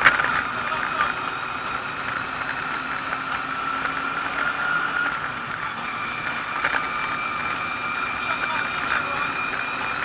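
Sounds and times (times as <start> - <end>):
car engine high whine: 0.0 - 10.0
road noise: 0.0 - 10.0.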